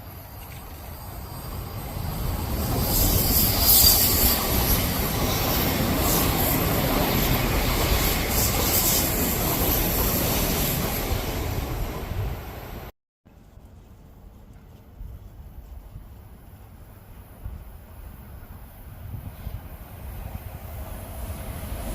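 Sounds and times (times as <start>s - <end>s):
electric train rolling past: 0.0s - 12.9s, 16.6s - 21.9s.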